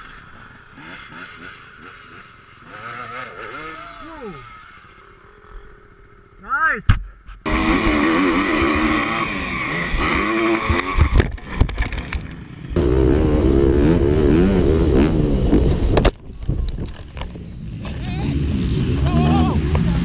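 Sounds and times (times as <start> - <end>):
dirt bike engine revving: 0.0 - 6.4, 7.4 - 16.0, 17.3 - 20.0.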